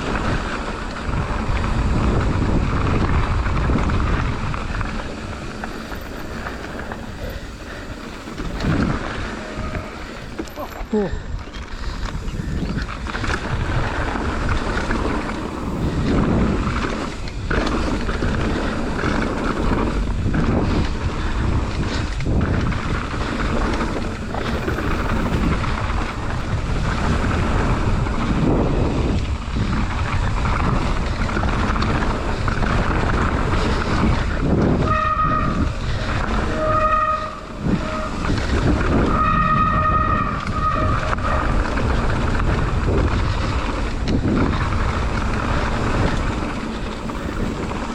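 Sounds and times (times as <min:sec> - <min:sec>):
bike tyres rattling over ground: 0:00.0 - 0:47.9
wind rush on microphone: 0:00.0 - 0:47.9.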